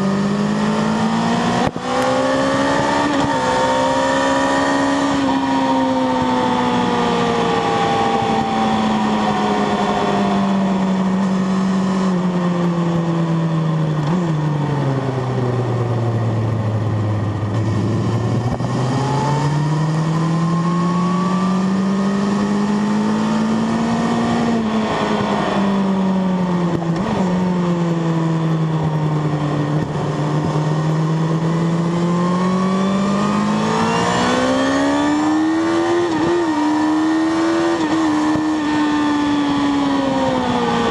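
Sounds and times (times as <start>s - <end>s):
motorcycle engine revving: 0.0s - 40.9s
wind rushing over microphone: 0.8s - 14.1s, 15.8s - 40.9s.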